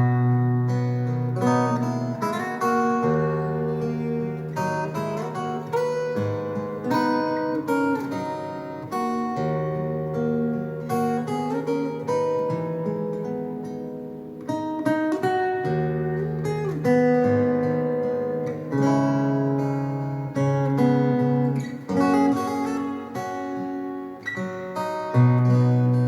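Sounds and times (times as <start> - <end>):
acoustic guitar chords: 0.0 - 26.0.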